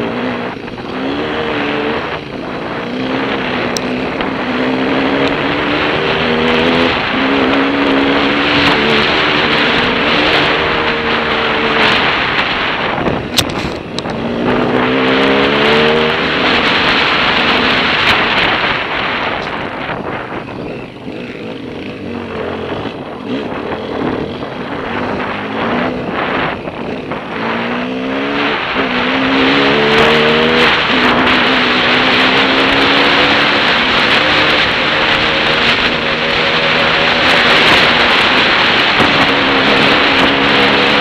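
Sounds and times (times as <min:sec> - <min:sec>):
dirt bike engine accelerating: 0:00.0 - 0:41.0
wind noise on microphone: 0:00.0 - 0:41.0.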